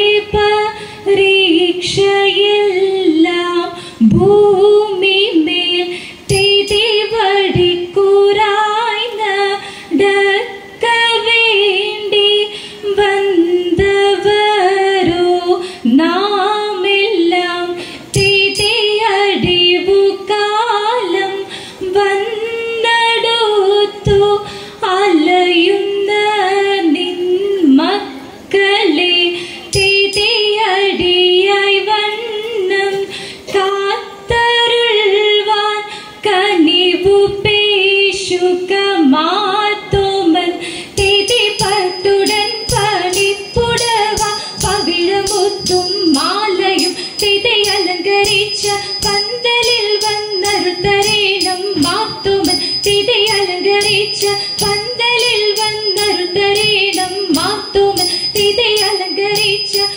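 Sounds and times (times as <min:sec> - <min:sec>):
women singing unaccompanied: 0:00.0 - 0:59.9.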